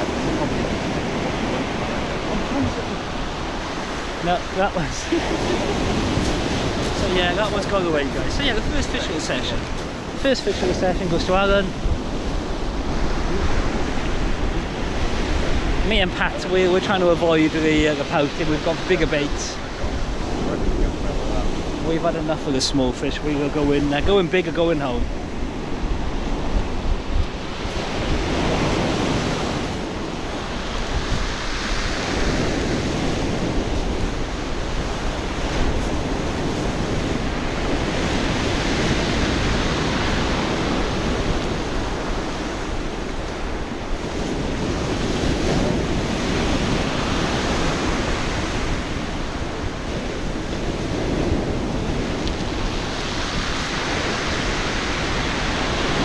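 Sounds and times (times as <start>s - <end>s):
surf washing up pebbly beach: 0.0s - 56.0s
wind buffeting microphone: 0.0s - 56.0s.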